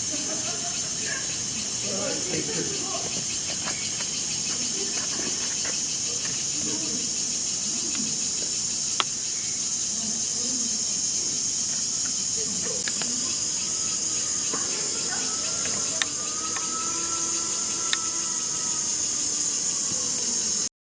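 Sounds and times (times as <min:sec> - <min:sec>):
distant voices murmuring: 0:00.0 - 0:20.7
insects droning: 0:00.0 - 0:20.7.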